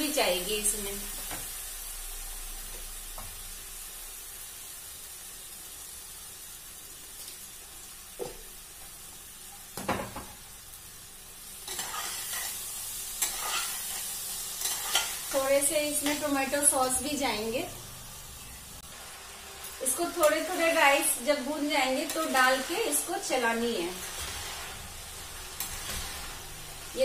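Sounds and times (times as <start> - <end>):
food sizzling in a pot: 0.0 - 27.0.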